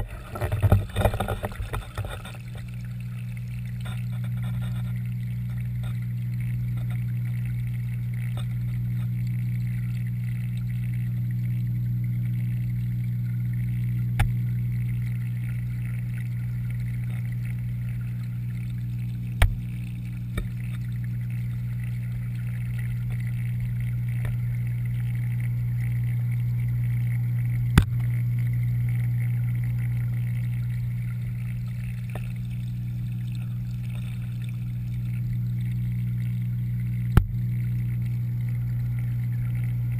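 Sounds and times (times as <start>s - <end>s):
pond pump humming underwater: 0.0s - 39.9s.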